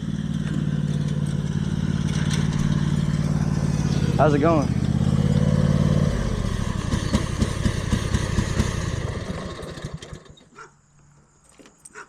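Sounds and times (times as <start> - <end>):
engine shuddering off: 0.0 - 10.4
small engine idling: 0.0 - 10.4.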